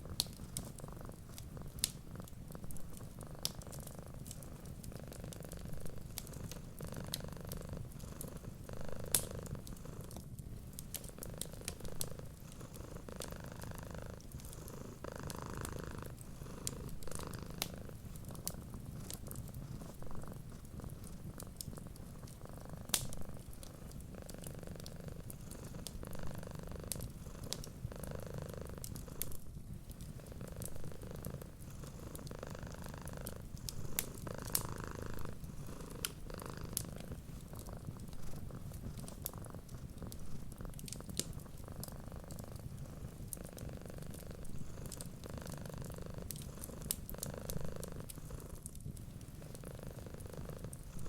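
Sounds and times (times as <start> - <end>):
cat purring: 0.0 - 51.0
fireplace crackling and popping: 0.0 - 51.0.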